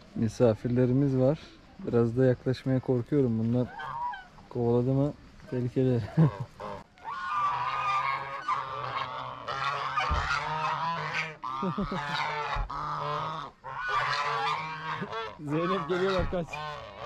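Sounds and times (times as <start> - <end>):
geese honking: 3.0 - 17.0.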